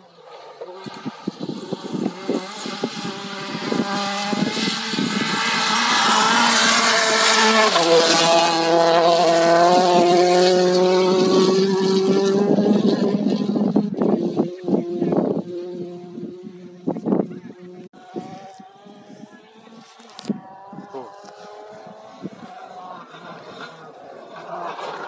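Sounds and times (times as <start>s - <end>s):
rally car engine at high revs: 0.0s - 25.0s.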